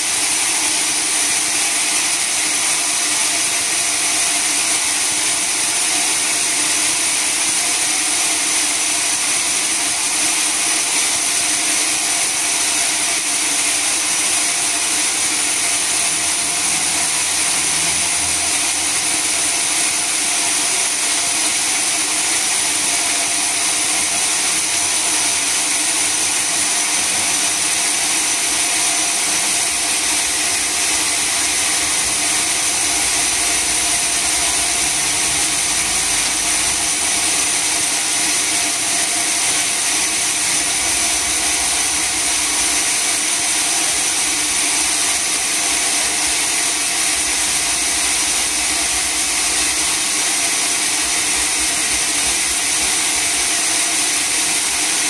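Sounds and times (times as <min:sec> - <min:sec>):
sawmill saw whine: 0:00.0 - 0:55.0.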